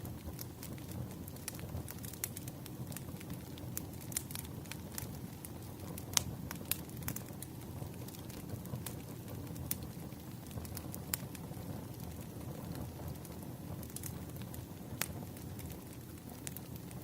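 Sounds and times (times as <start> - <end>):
firewood crackling and popping: 0.0 - 17.0
low rumble of flame: 0.0 - 17.0.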